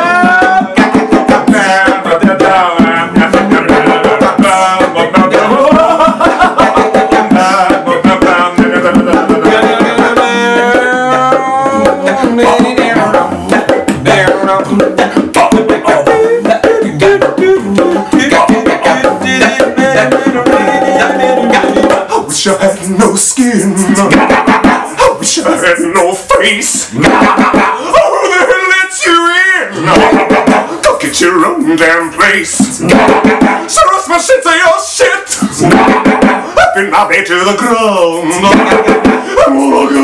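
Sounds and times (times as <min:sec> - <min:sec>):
bongo drums: 0:00.0 - 0:40.0
men singing together: 0:00.0 - 0:40.0.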